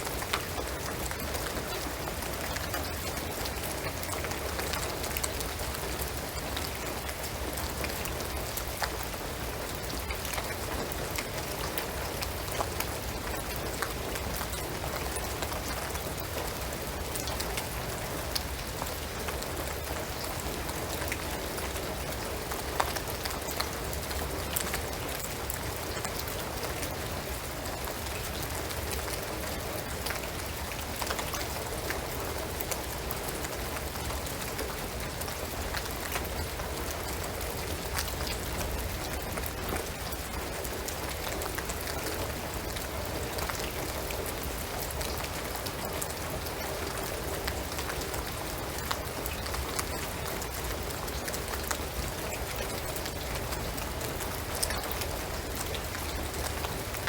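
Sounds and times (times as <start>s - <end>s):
rain on roof and trees: 0.0s - 57.0s.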